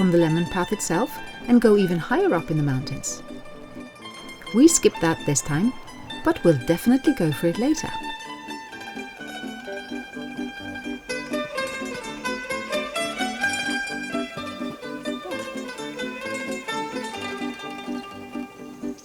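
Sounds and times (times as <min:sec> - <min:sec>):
plucked string music: 0:00.0 - 0:19.0.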